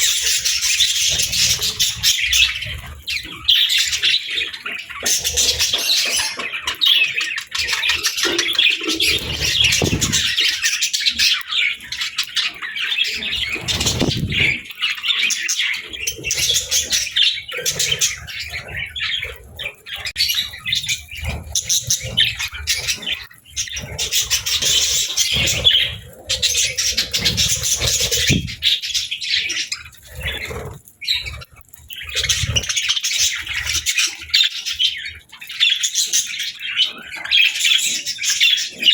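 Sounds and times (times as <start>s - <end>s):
parrots chattering and squawking: 0.0s - 38.9s.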